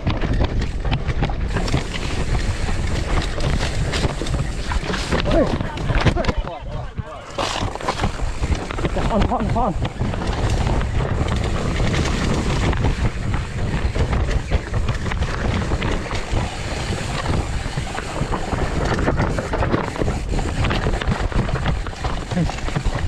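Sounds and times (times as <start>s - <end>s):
bike rattles and knocks: 0.0s - 23.0s
wind buffeting microphone: 0.0s - 23.0s.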